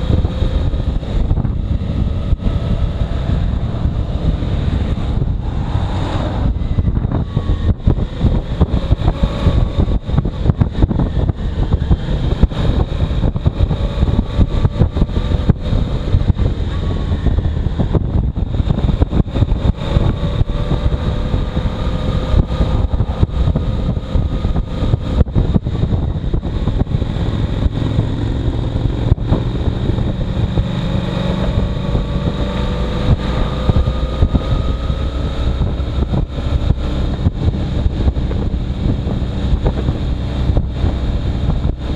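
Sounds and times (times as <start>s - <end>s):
faint motorcycle engine: 0.0s - 41.9s
wind buffeting microphone: 0.0s - 41.9s.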